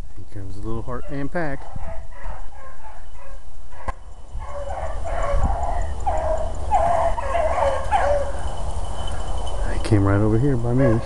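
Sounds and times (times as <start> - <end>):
dogs baying: 0.9 - 9.7, 10.6 - 11.0.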